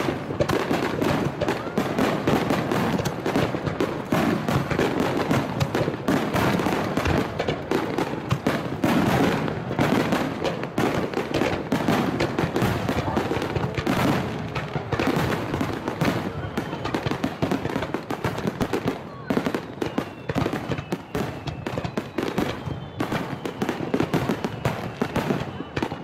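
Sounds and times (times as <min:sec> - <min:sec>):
fireworks bursts and crackles: 0:00.0 - 0:26.0.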